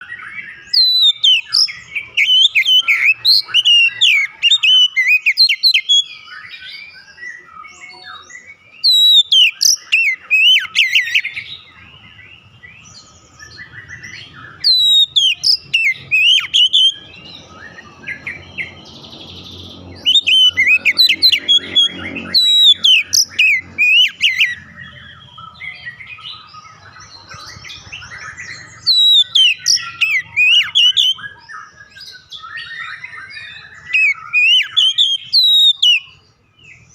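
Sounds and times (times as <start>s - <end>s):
bird singing whistled phrases: 0.0s - 36.9s
bird chattering: 0.5s - 6.1s, 8.8s - 31.8s, 32.4s - 36.2s.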